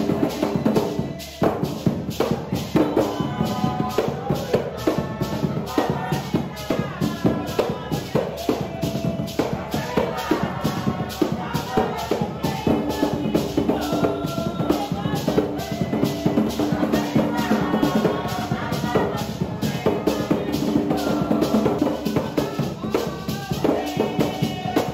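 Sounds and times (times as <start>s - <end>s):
hand drums beaten fast: 0.0s - 24.9s
voices singing: 0.0s - 24.9s.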